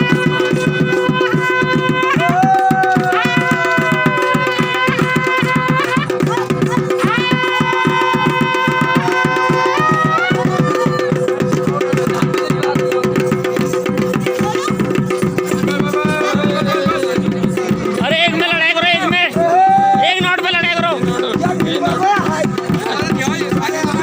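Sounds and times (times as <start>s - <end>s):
fast drumming: 0.0s - 24.0s.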